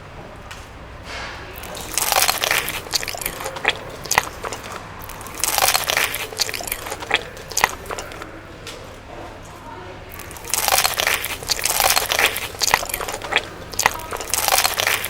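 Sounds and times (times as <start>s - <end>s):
chewing crispy fried food: 1.5s - 8.8s, 10.1s - 15.0s.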